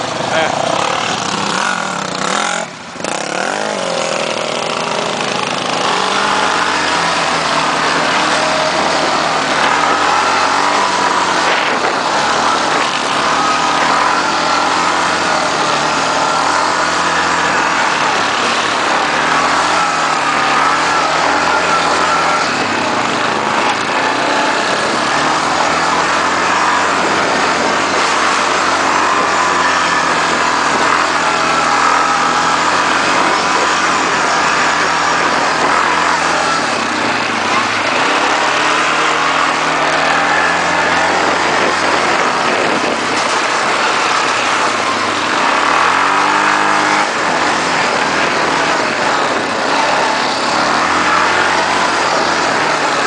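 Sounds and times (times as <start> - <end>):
quad bike engine revving: 0.0 - 53.0
steady rushing noise: 0.0 - 53.0.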